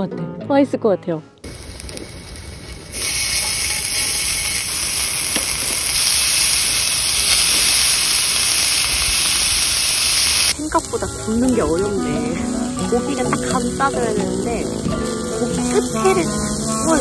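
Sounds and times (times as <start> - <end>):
meat sizzling on griddle: 1.5 - 17.0.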